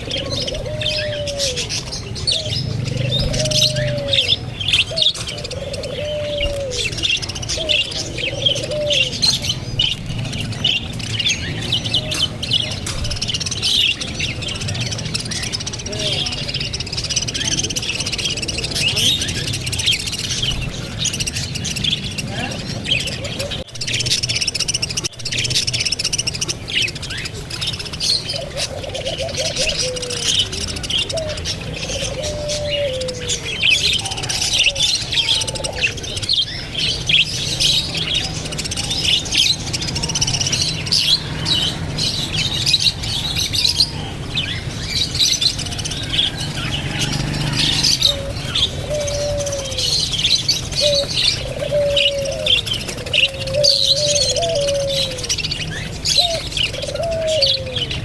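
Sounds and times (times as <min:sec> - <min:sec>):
birds chirping and twittering: 0:00.0 - 0:58.0.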